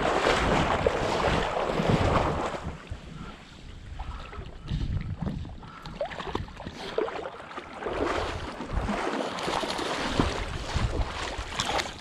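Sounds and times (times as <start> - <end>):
wind rumble on microphone: 0.0 - 7.0, 7.9 - 12.0
water splashing and sloshing: 0.0 - 12.0.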